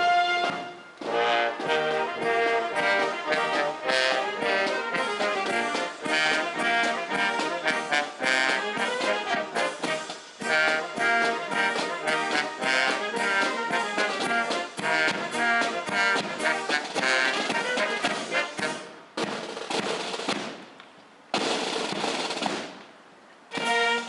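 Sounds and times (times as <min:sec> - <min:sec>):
brass band playing a march: 0:00.0 - 0:20.6, 0:21.4 - 0:22.8, 0:23.5 - 0:24.0.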